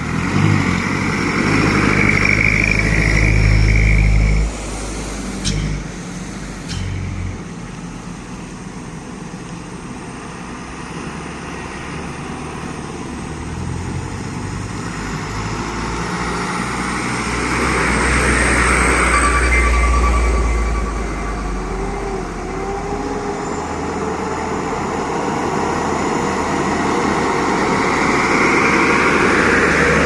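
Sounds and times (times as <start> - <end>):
truck engine and tyre rumble: 0.0 - 30.0.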